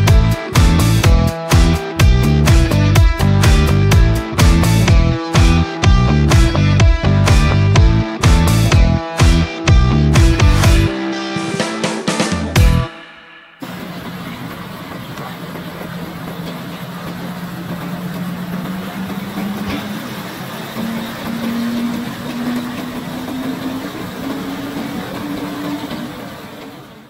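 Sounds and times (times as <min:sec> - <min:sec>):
truck diesel engine driving off: 0:00.0 - 0:10.9, 0:13.6 - 0:27.0.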